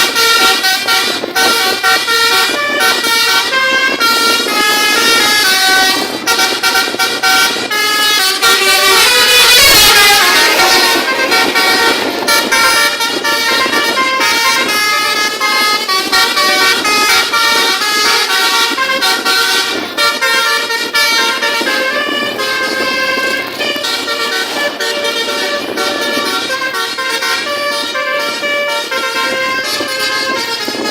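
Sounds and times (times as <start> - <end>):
musical air horn playing a tune: 0.0 - 30.9.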